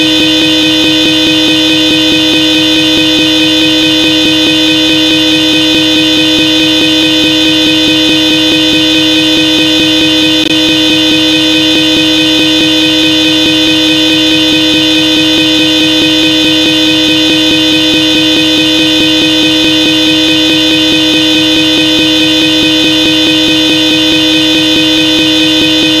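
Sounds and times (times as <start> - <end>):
electric car horn blast: 0.0 - 26.0.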